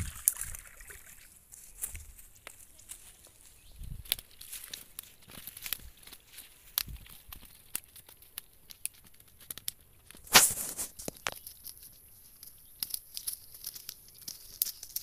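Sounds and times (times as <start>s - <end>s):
dry grass and leaves rustling: 0.0s - 15.0s.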